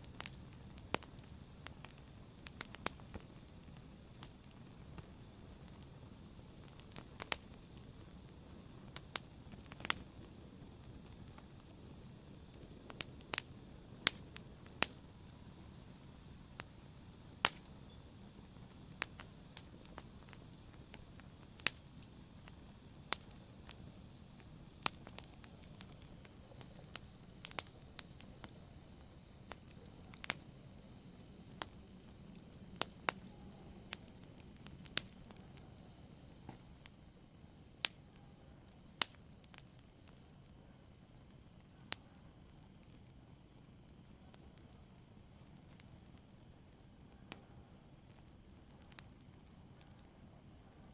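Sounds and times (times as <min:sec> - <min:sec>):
low rumble of flames: 0:00.0 - 0:50.9
wood fire crackling and popping: 0:00.0 - 0:50.9.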